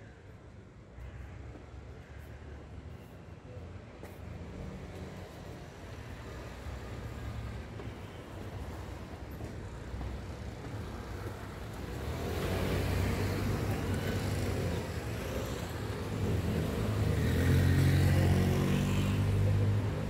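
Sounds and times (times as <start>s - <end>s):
cars and scooters driving past: 1.0s - 20.0s.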